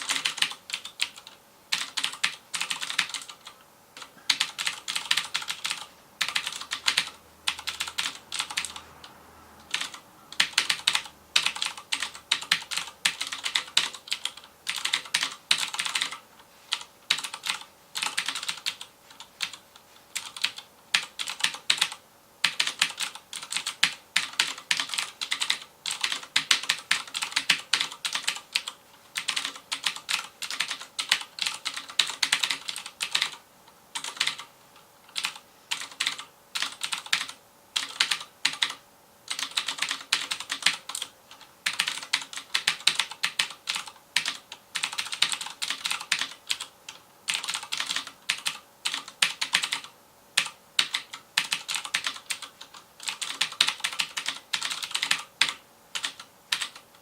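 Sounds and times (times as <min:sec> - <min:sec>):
clicky mechanical keyboard typing: 0:00.0 - 0:33.4, 0:34.0 - 0:57.0.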